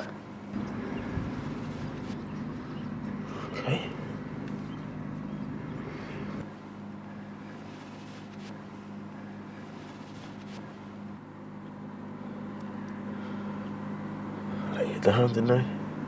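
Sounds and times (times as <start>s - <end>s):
car engine hum inside cabin: 0.0s - 16.0s.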